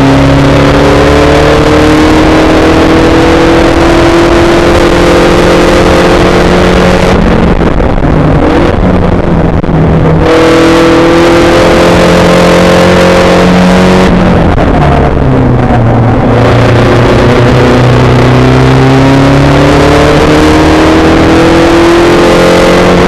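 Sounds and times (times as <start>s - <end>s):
racing car engine at full throttle: 0.0s - 23.0s.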